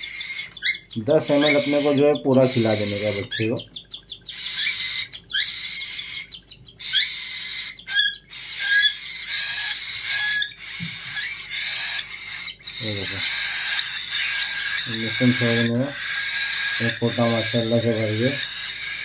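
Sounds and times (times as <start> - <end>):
cockatiel chick begging call: 0.0 - 19.0.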